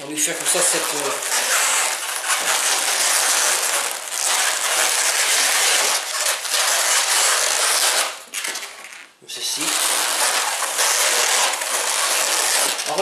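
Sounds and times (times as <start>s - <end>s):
balloon squeaking and rubbing: 0.0s - 13.0s.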